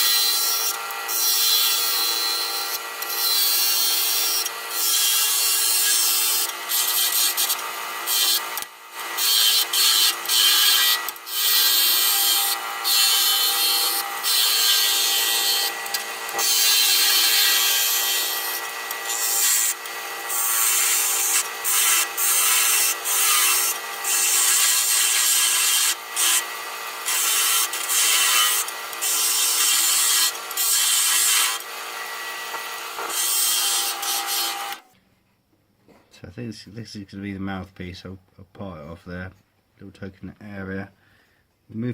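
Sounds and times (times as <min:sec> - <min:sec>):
chisel cutting spinning wood: 0:00.0 - 0:34.8
wood lathe motor hum: 0:00.0 - 0:34.8.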